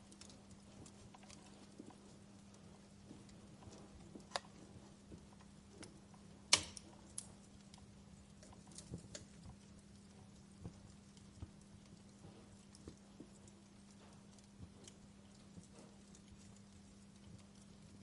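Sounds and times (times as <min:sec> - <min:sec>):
faint steady hum: 0:00.0 - 0:18.0
wood fire crackling: 0:00.0 - 0:18.0.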